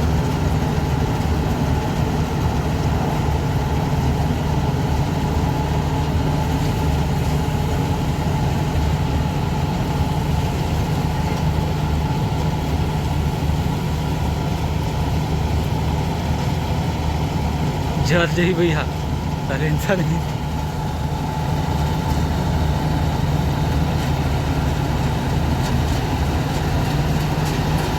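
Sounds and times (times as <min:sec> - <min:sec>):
combine harvester running: 0:00.0 - 0:27.9.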